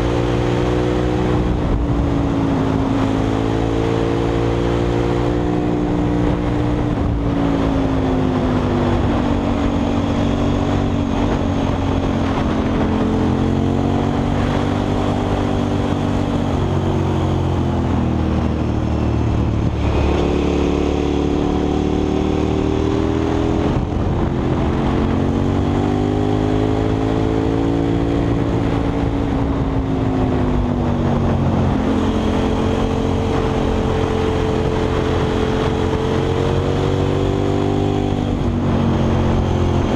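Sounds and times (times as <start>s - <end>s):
motorcycle engine revving: 0.0s - 39.9s
wind rushing: 5.1s - 39.9s.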